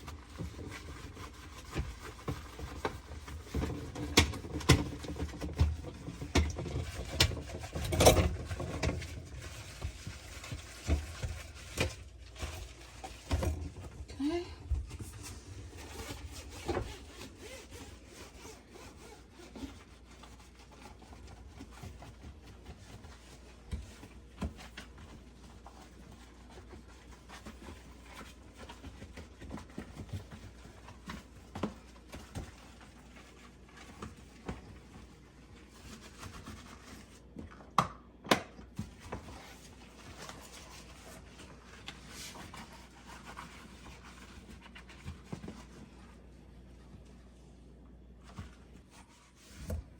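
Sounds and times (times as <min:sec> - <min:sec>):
cloth wiping dishwasher tub: 0:00.0 - 0:37.4, 0:38.7 - 0:49.9.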